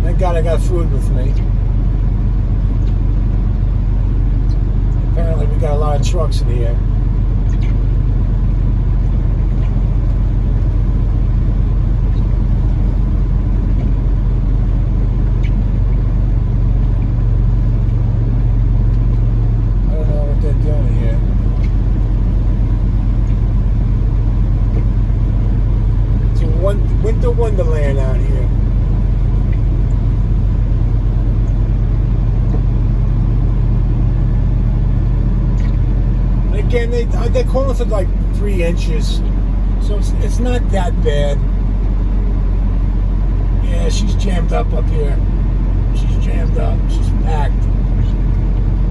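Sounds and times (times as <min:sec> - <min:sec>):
diesel truck engine rumbling: 0:00.0 - 0:48.9.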